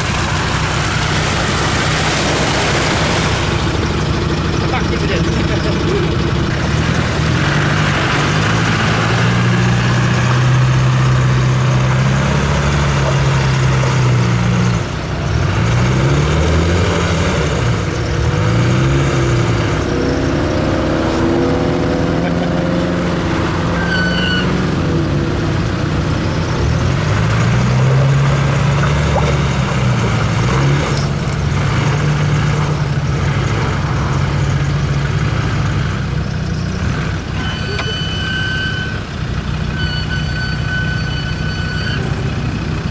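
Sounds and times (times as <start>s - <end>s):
off-road vehicle engine revving: 0.0s - 42.9s
rattling and tyre noise: 0.0s - 42.9s.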